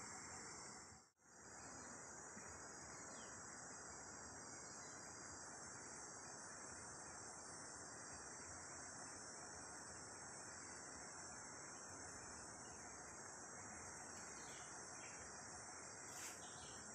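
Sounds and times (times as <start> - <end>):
faint hiss: 0.0 - 16.9
insects chirring: 0.0 - 16.9.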